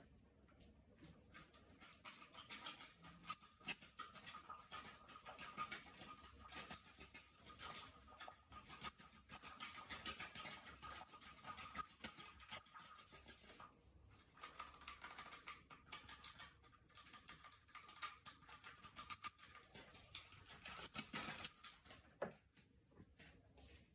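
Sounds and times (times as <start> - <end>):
small irregular clicks: 0.4 - 22.3.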